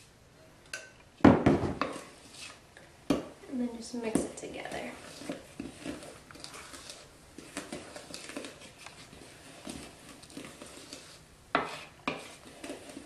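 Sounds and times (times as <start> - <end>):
wooden spoon scraping plastic bowl: 1.6 - 13.0.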